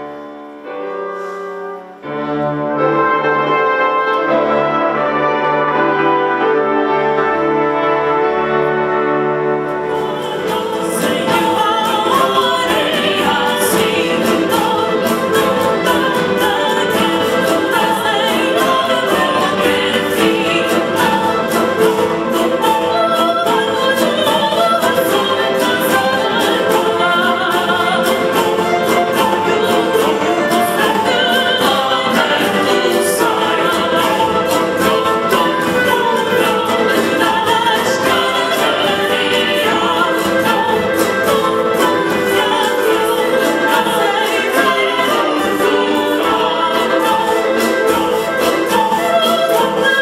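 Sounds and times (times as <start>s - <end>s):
wind orchestra playing: 0.0s - 50.0s
choir singing: 1.7s - 50.0s
percussion strokes: 9.5s - 50.0s.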